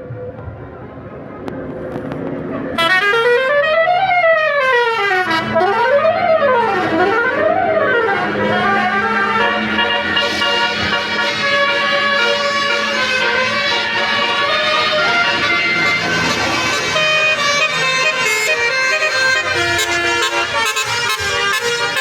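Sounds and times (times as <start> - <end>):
musical bus horn swooping: 2.6 - 22.0.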